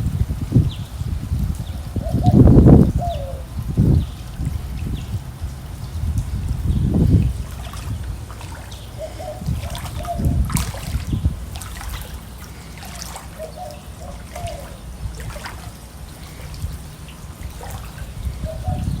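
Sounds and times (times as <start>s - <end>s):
floodwater trickling in creek: 0.0s - 19.0s
wind rumbling on microphone: 0.0s - 19.0s.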